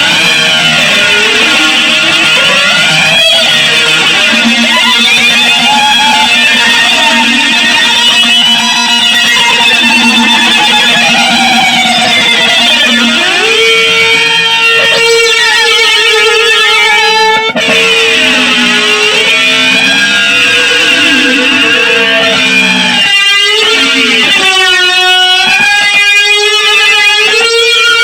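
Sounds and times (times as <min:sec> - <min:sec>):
noise music with sliding guitar tones: 0:00.0 - 0:28.0.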